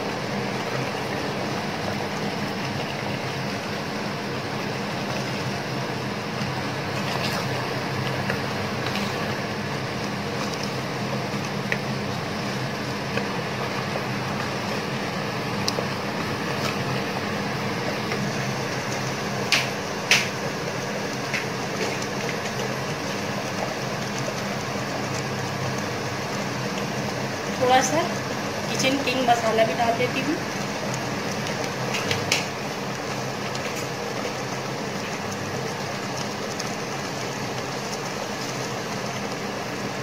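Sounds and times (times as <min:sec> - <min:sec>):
cooling fan humming: 0:00.0 - 0:40.0
food frying in a pot: 0:00.0 - 0:40.0.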